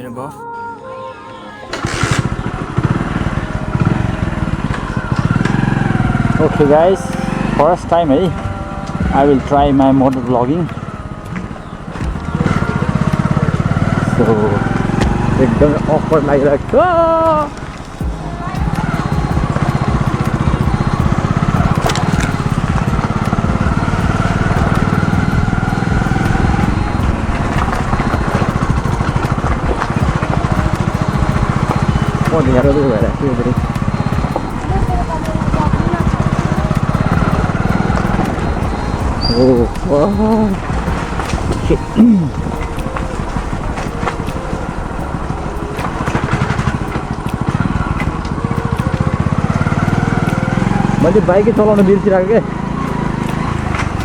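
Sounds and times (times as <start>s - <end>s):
motorcycle engine running: 1.7s - 54.0s.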